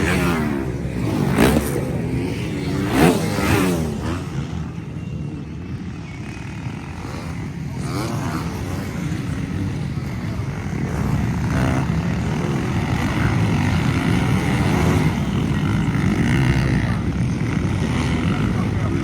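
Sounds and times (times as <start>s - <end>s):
motocross motorcycles revving: 0.0s - 19.0s.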